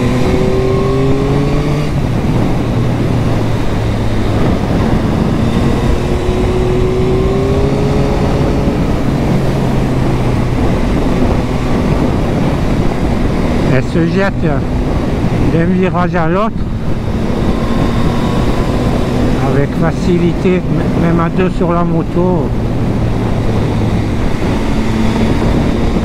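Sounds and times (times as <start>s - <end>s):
motorcycle engine accelerating: 0.0s - 26.0s
wind rush on microphone: 0.0s - 26.0s.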